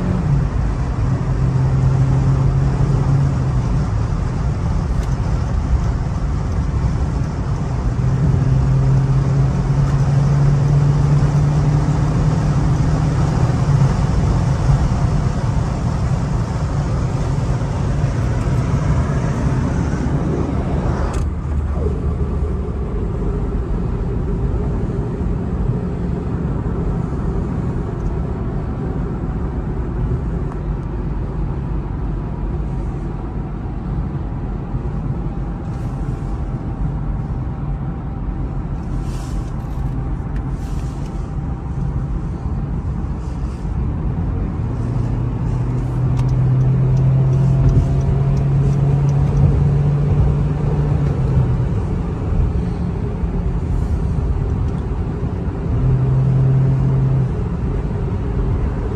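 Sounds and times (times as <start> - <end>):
tyre and road rumble: 0.0 - 25.8, 35.0 - 58.9
car engine drone: 0.0 - 58.9.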